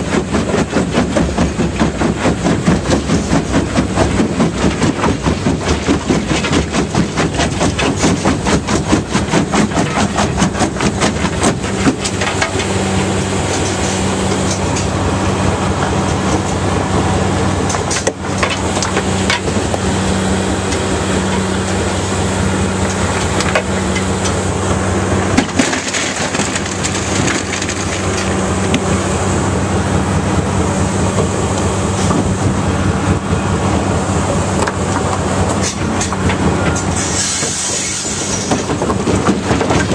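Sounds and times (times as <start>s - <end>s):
rock clattering in crusher: 0.0s - 16.6s, 17.6s - 29.3s, 34.6s - 39.9s
engine drone: 0.0s - 39.9s.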